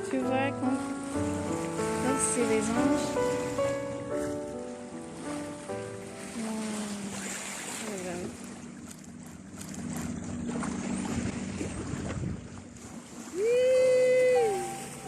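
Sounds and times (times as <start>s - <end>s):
wind and water rushing along hull: 0.0s - 15.0s.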